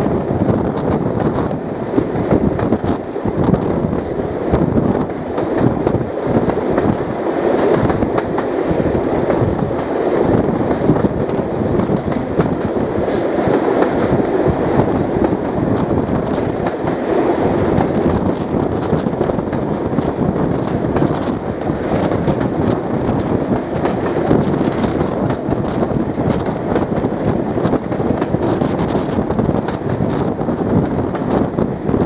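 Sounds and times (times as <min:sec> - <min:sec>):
train wheels rumbling on rail: 0:00.0 - 0:32.0
wheels clicking over rail joints: 0:00.7 - 0:31.6.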